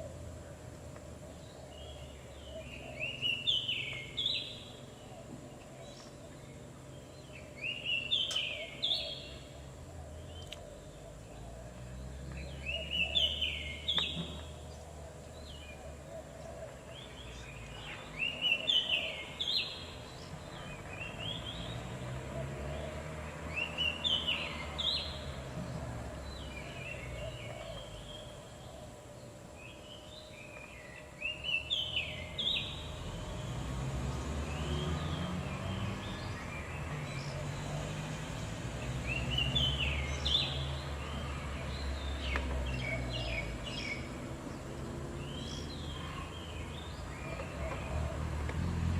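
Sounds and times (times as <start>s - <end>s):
songbird chirping: 0.0s - 48.9s.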